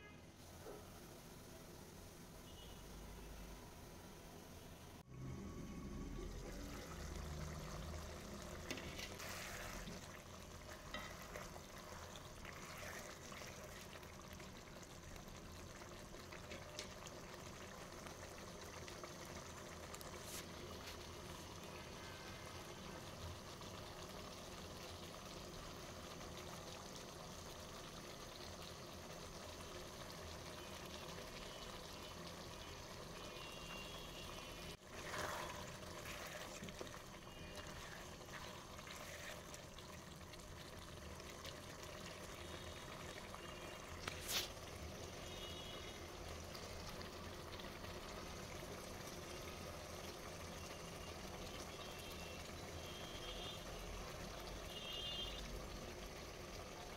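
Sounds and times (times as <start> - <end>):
curry bubbling and sizzling: 0.0 - 56.9.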